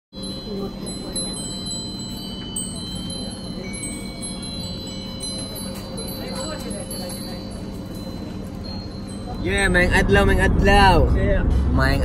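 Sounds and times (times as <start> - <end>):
metal wind bells ringing: 0.1 - 12.0.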